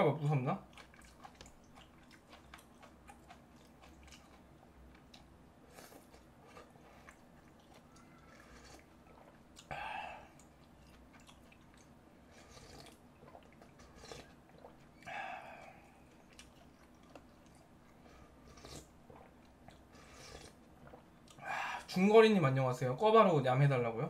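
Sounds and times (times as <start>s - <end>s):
chewing with wet mouth clicks: 0.6s - 9.7s, 10.3s - 21.4s.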